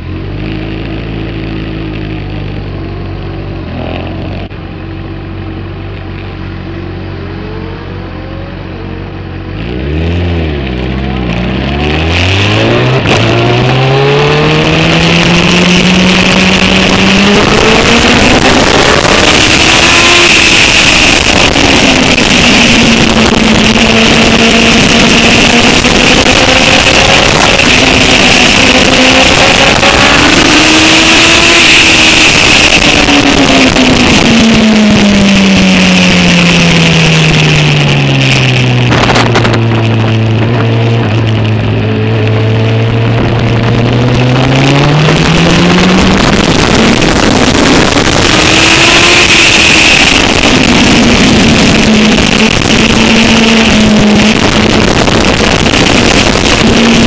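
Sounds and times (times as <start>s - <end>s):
motorcycle engine accelerating: 0.0s - 57.0s
wind rush on microphone: 11.0s - 57.0s.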